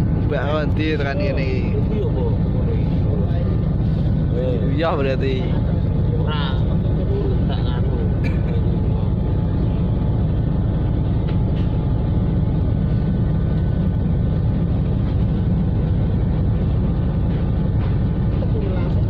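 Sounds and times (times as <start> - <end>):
ship engines low rumble: 0.0 - 19.0.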